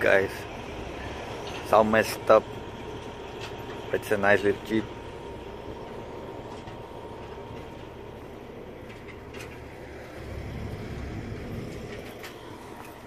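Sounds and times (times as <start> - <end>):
thin steady whine: 0.0 - 13.0
vehicle engine rumbling: 0.0 - 13.0.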